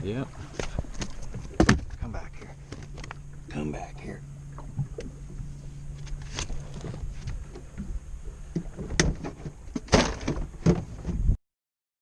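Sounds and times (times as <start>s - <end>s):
low steady hum and rumble: 0.0s - 11.4s
knocks and bumps in a boat: 0.3s - 3.6s, 4.5s - 11.4s.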